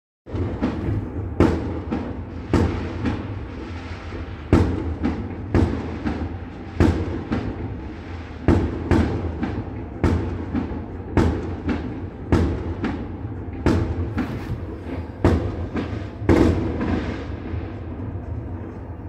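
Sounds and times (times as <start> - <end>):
firework bangs: 0.3 - 18.4
low rumble of distant fireworks: 0.3 - 19.0.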